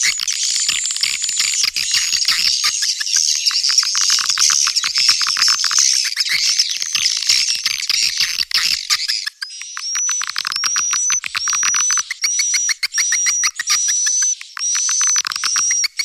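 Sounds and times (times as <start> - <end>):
swiftlet chirps and twitters: 0.0 - 16.0.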